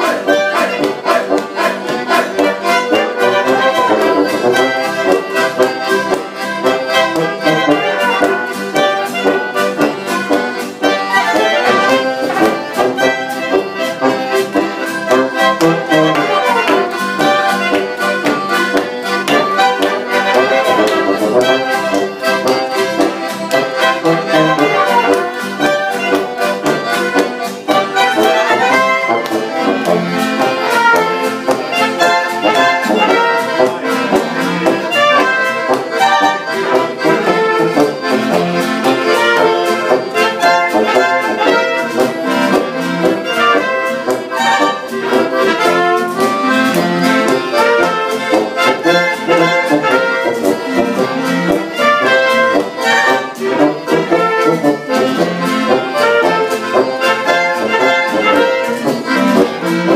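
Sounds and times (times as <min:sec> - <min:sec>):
folk band playing: 0:00.0 - 0:59.9.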